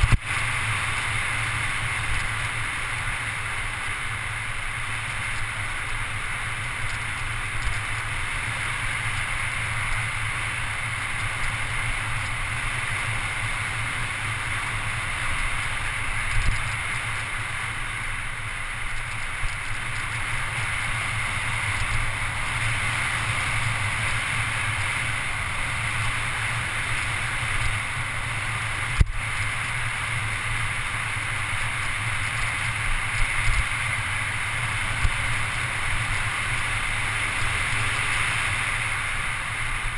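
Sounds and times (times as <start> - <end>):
bike tyres rolling on asphalt: 0.0 - 39.9.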